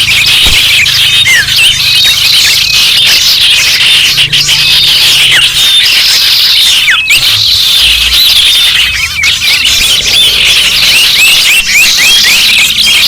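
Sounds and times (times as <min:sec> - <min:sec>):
garden birds chirping and whistling: 0:00.0 - 0:13.0.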